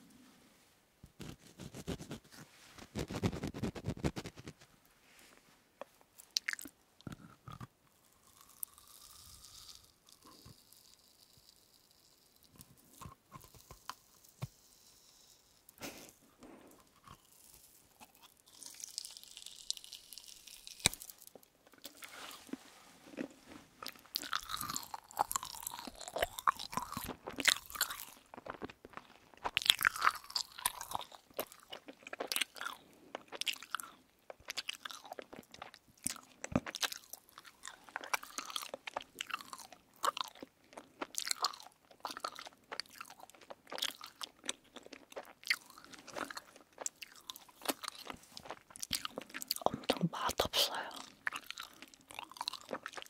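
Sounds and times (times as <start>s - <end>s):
crunching hard marshmallow: 6.2s - 50.0s, 50.8s - 53.0s.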